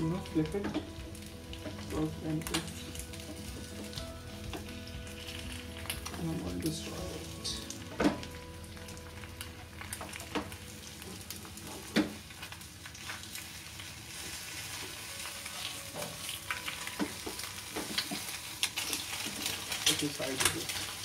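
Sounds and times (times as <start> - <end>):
egg sizzling in oil: 0.0 - 21.0.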